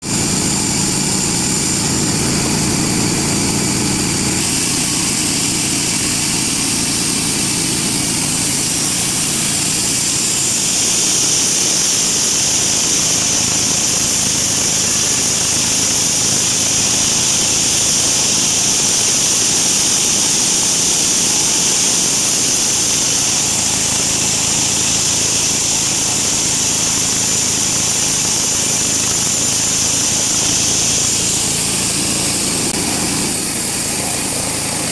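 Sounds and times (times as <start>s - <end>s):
bandsaw cutting a log: 0.0s - 34.9s.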